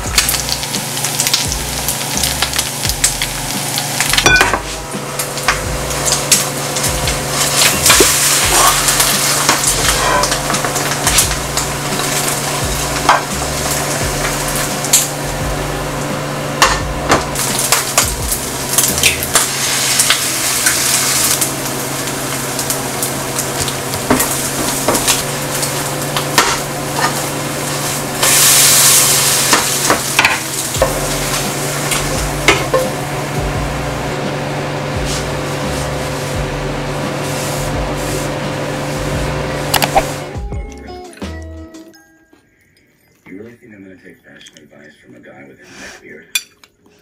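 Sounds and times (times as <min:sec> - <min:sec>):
food sizzling in oil: 0:00.0 - 0:40.4.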